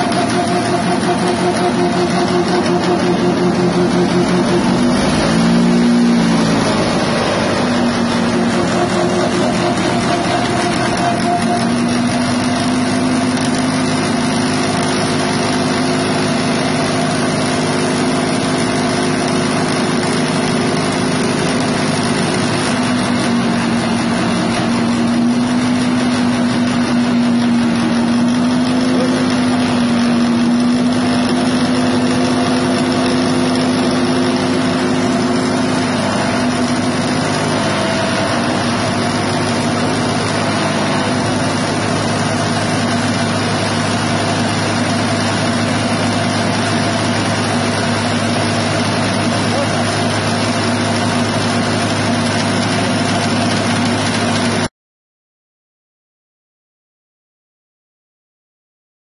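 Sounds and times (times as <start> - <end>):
petrol engine running: 0.0 - 54.7.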